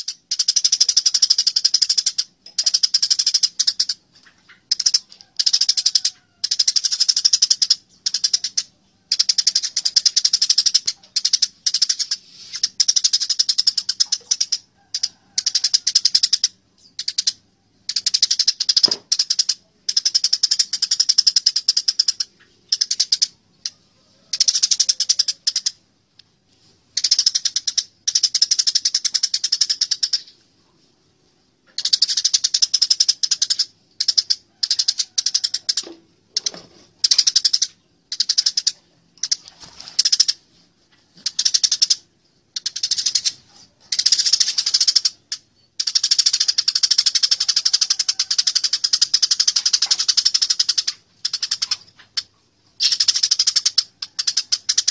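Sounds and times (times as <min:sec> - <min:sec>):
sparrows chattering: 0:00.0 - 0:25.8, 0:26.6 - 0:54.9.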